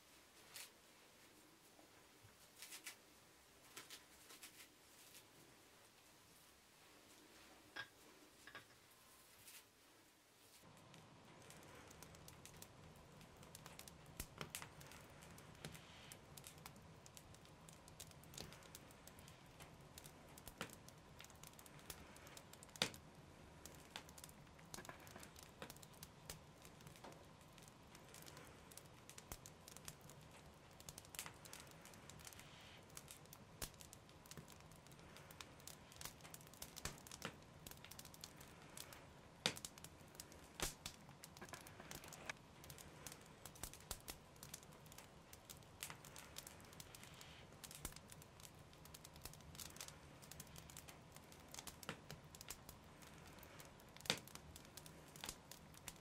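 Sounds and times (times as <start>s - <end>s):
faint steady hum: 0.0s - 56.0s
small clicks and crinkles: 0.3s - 6.2s, 7.0s - 9.8s, 10.4s - 56.0s.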